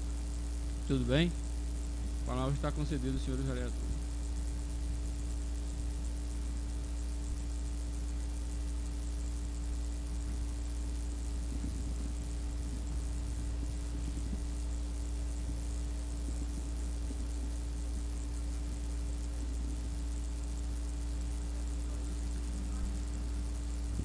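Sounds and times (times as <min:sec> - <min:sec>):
low electrical hum: 0:00.0 - 0:24.0
tape hiss: 0:00.0 - 0:24.0.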